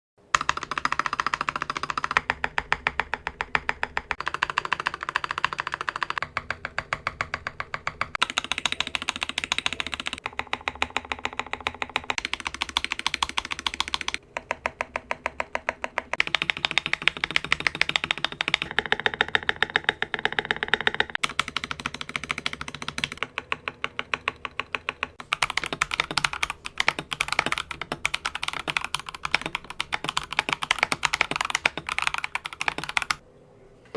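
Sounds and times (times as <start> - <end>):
fast mechanical keyboard typing: 0.3 - 33.2.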